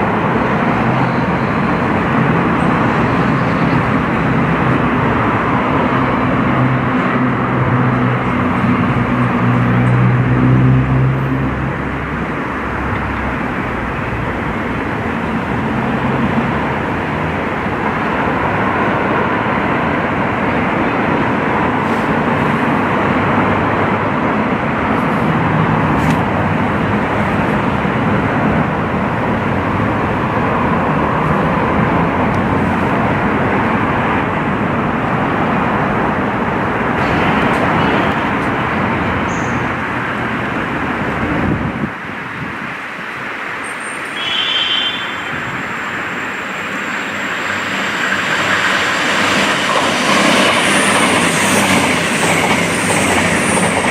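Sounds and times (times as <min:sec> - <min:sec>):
train wheels on rails: 0:00.0 - 0:53.9.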